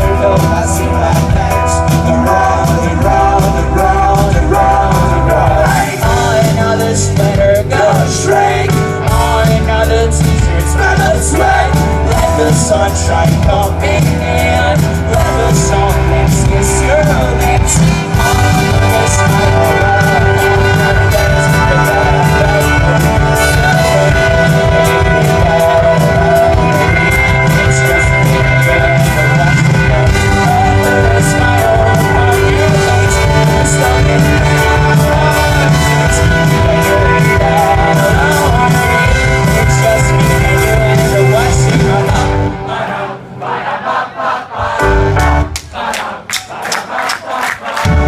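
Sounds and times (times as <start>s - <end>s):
live rock band playing: 0.0s - 43.4s, 44.6s - 45.7s
person singing: 0.0s - 43.6s
crowd cheering and shouting: 0.0s - 48.0s.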